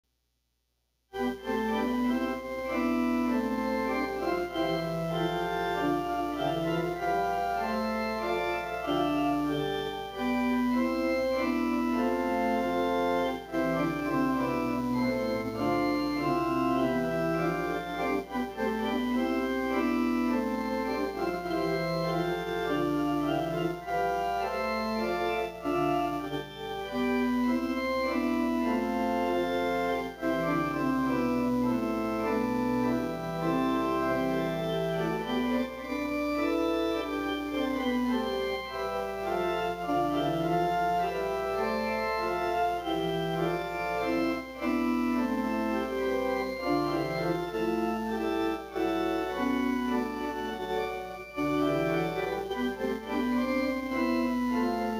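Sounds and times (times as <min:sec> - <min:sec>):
organ music: 0:01.1 - 0:54.9.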